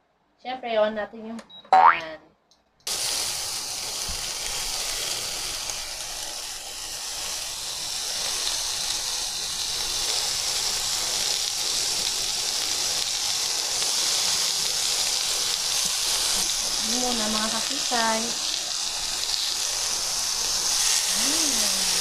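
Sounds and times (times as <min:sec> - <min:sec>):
meat sizzling in frying pan: 0:02.9 - 0:22.0.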